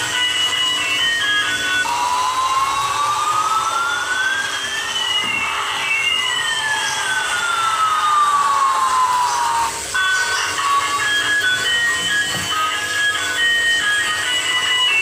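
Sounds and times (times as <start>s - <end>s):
electronic jet engine effect: 0.0s - 15.0s.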